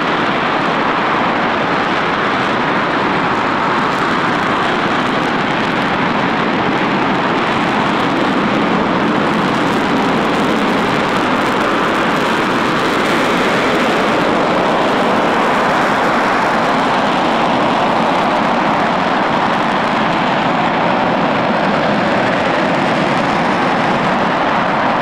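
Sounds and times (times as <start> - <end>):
rocket engine roaring: 0.0 - 25.0.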